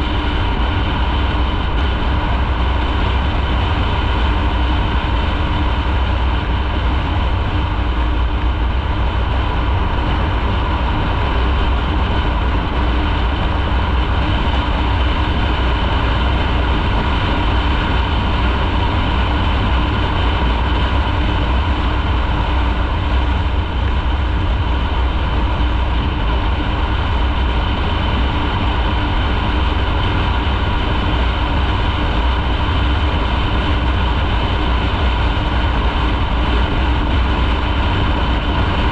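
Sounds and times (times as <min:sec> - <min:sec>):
motorcycle engine running: 0:00.0 - 0:38.9
wind rumble on microphone: 0:00.0 - 0:38.9.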